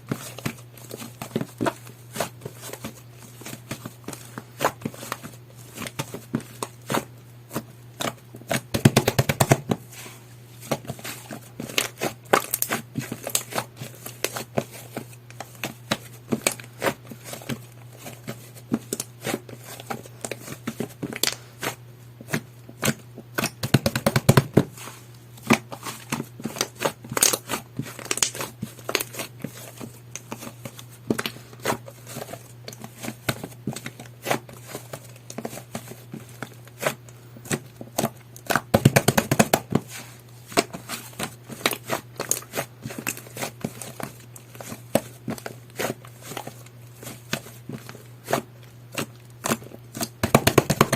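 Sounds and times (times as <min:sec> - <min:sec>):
hands squishing slime: 0:00.0 - 0:50.9.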